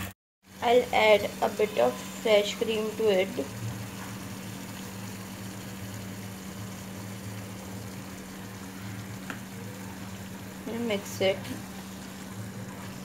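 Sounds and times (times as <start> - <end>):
steady low hum: 0.0 - 13.0
gravy bubbling in pan: 0.4 - 13.0.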